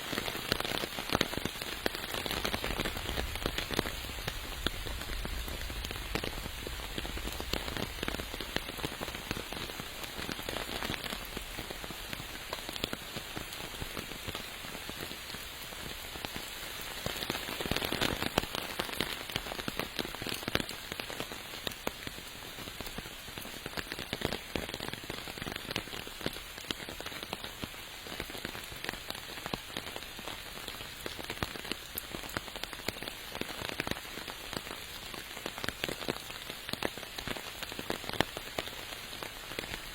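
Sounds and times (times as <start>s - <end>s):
raindrops ticking on surfaces: 0.0s - 39.9s
steady rain falling: 0.0s - 39.9s.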